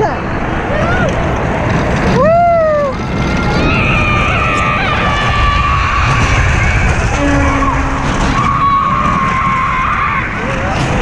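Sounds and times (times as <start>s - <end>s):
roller coaster train rumbling: 0.0s - 11.0s
wind rushing over microphone: 0.0s - 11.0s
riders screaming: 2.1s - 11.0s.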